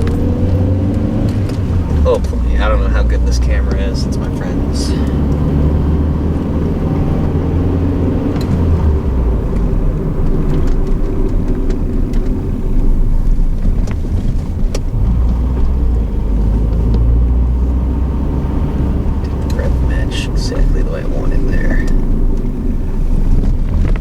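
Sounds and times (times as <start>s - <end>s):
car engine while driving: 0.0s - 24.0s.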